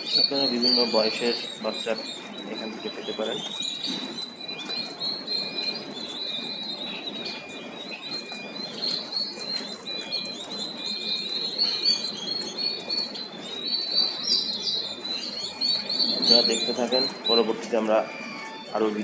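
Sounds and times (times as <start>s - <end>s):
turkey poults peeping: 0.0s - 19.0s.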